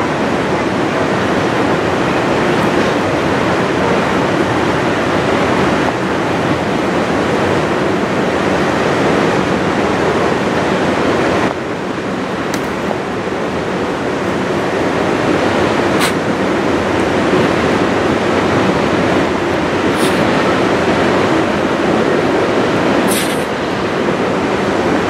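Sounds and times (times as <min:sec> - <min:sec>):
river rushing: 0:00.0 - 0:25.0
train cars rolling: 0:00.0 - 0:25.0.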